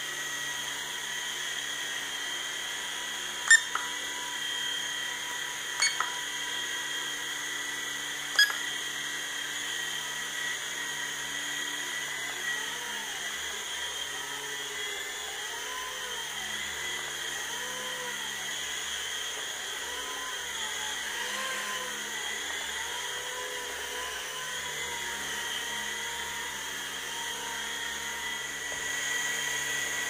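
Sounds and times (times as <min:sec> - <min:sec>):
toy helicopter motor whine: 0:00.0 - 0:30.0.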